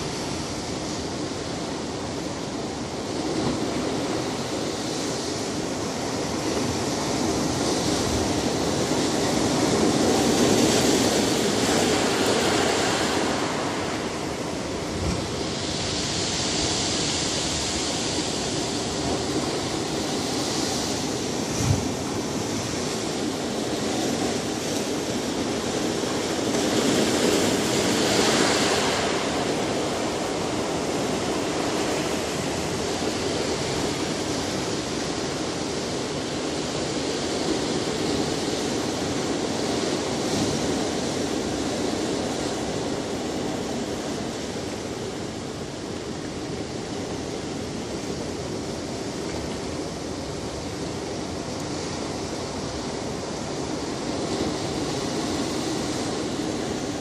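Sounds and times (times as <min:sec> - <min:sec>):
waves breaking on shore: 0:00.0 - 0:57.0.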